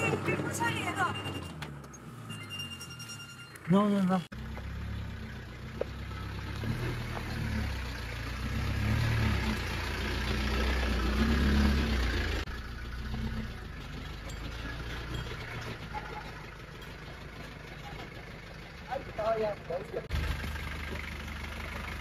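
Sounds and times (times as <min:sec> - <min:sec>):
pickup truck engine running: 0:04.4 - 0:22.0.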